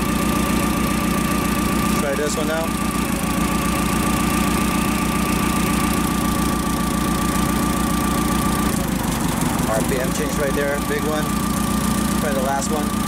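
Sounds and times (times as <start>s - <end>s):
forklift engine idling with misfire: 0.0s - 13.0s.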